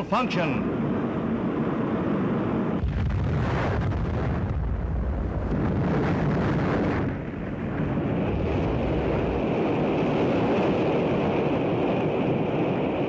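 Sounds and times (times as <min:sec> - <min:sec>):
rocket explosion roar: 0:01.6 - 0:13.0.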